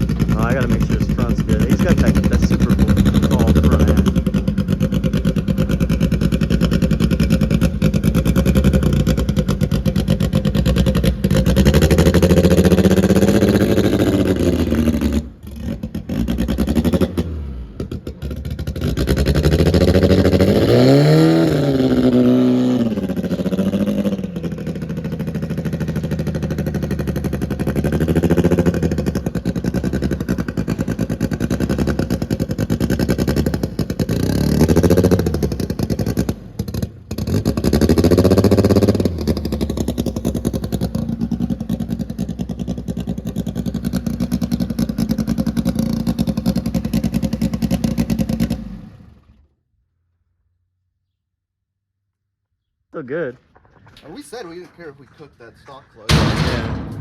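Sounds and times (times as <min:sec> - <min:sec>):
car engine revving: 0:00.0 - 0:49.3.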